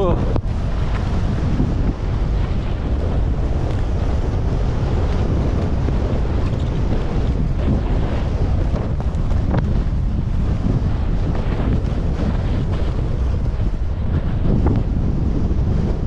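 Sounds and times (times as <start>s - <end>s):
skis sliding over packed snow: 0.0s - 16.0s
wind buffeting microphone: 0.0s - 16.0s.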